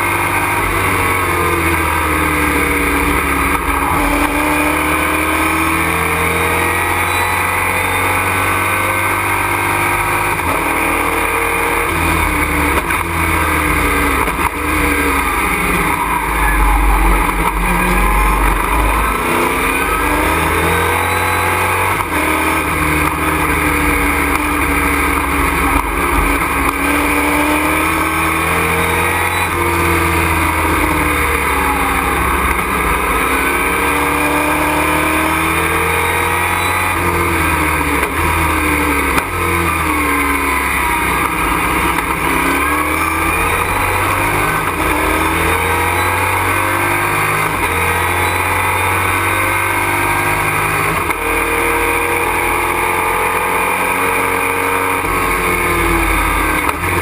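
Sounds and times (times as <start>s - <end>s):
race truck engine revving: 0.0s - 57.0s.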